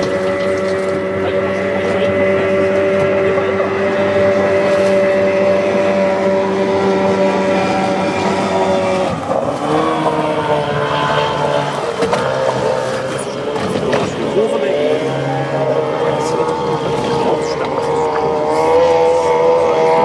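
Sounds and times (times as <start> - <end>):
powerboat engine running hard: 0.0 - 20.0.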